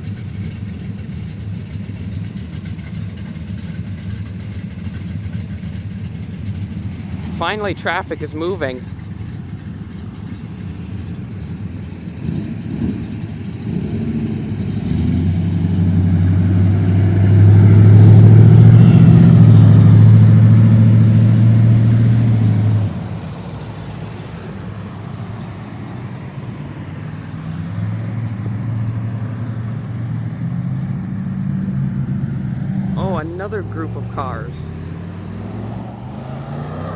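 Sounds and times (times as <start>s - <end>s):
car engine at low revs: 0.0s - 36.9s
hum of passing cars: 0.0s - 36.9s.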